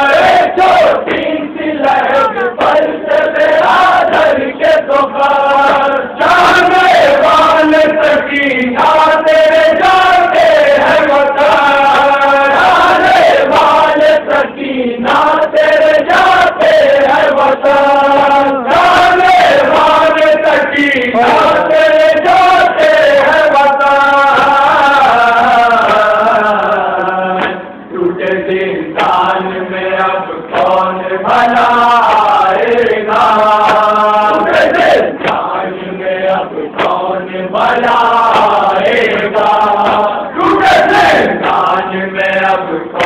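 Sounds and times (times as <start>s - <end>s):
man chanting through microphone: 0.0s - 43.0s
men singing along: 0.0s - 43.0s.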